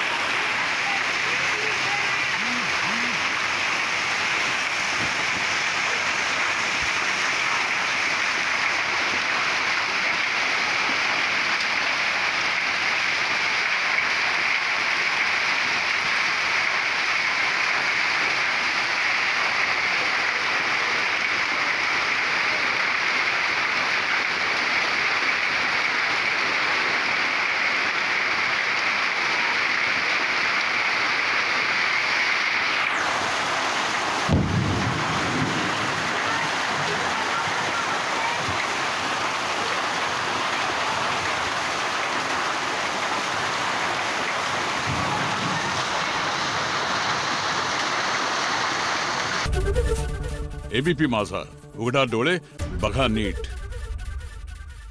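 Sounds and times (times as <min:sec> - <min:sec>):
heavy rain and hail: 0:00.0 - 0:49.6.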